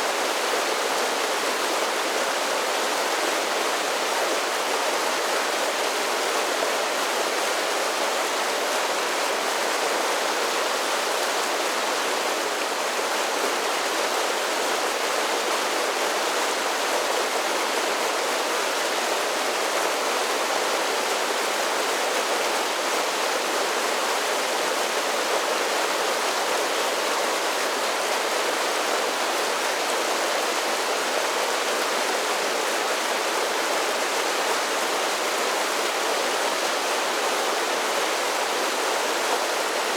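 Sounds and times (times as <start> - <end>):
creek water cascading down falls: 0.0 - 39.9.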